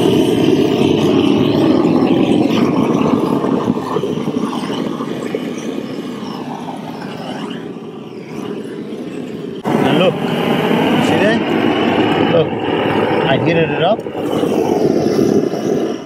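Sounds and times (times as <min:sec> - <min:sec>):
gas torch flame burning: 0:00.0 - 0:16.0.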